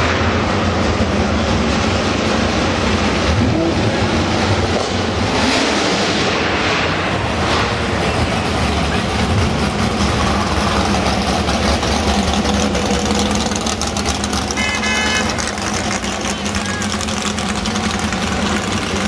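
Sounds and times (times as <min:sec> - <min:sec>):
muscle car engines rumbling: 0:00.0 - 0:19.0.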